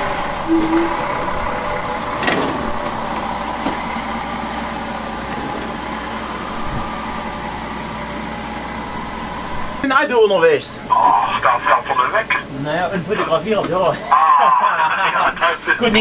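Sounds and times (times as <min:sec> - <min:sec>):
diesel railcar passing: 0:00.0 - 0:16.0.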